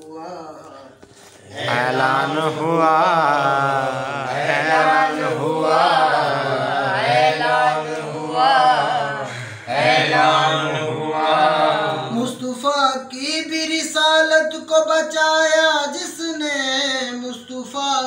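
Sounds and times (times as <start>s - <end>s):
man chanting melodically: 0.0s - 7.9s, 8.8s - 18.0s.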